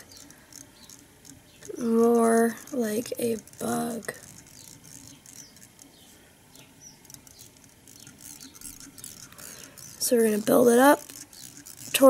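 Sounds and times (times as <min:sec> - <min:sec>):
thread ticking and scratching: 0:00.0 - 0:12.0.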